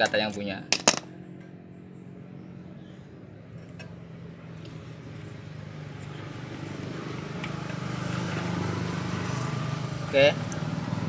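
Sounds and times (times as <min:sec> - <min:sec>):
engine running: 0:00.7 - 0:11.0.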